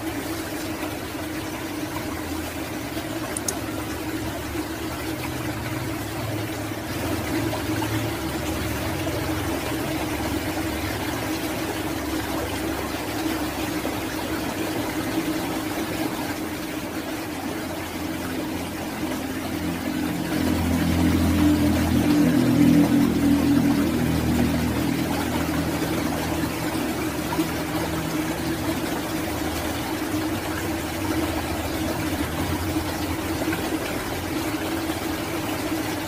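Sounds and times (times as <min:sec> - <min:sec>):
low steady hum: 0:00.0 - 0:36.0
running water rushing: 0:00.0 - 0:36.0.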